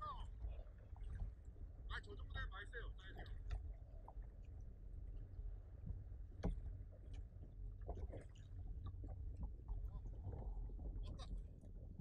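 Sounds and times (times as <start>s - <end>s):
steady low rumble: 0.0s - 12.0s
water slapping kayak hull: 0.0s - 12.0s.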